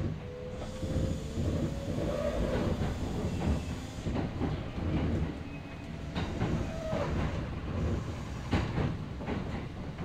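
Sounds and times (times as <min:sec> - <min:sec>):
train wheels rumbling on rails: 0:00.0 - 0:10.0
track clacks: 0:01.3 - 0:10.0.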